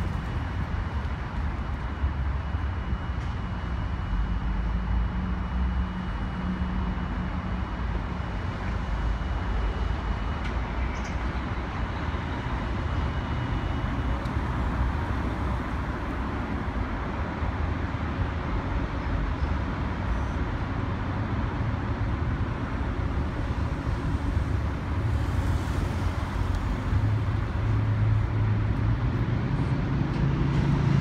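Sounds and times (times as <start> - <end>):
diesel engines idling: 0.0 - 31.0
street traffic: 0.0 - 31.0.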